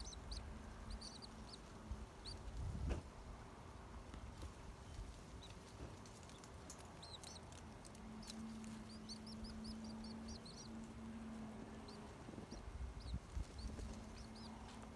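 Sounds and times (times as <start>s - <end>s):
nestling birds peeping: 0.0s - 3.0s, 4.3s - 14.9s
faint low hum: 0.0s - 14.9s.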